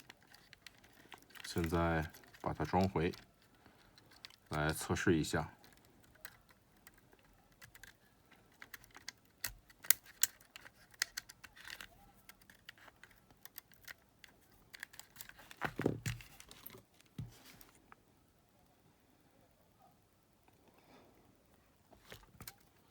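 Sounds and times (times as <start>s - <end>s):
plastic and metal parts clicking: 0.0s - 17.7s, 22.0s - 22.9s.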